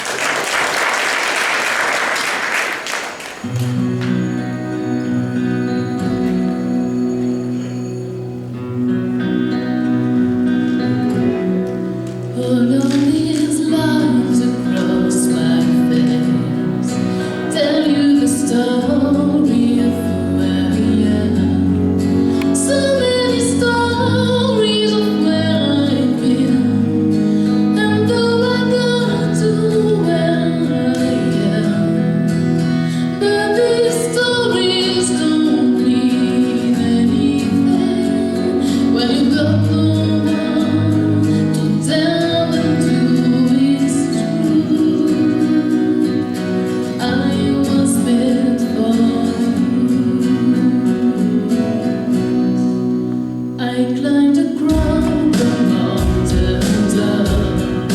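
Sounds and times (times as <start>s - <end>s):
guitar accompaniment: 0.0s - 57.9s
woman singing: 10.7s - 53.0s, 53.6s - 57.9s.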